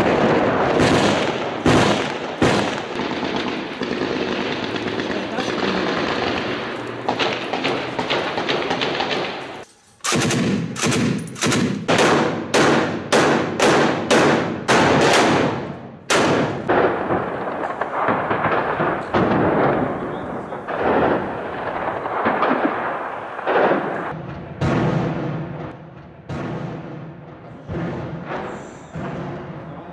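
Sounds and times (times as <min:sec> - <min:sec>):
machine-gun fire: 0:00.0 - 0:29.6.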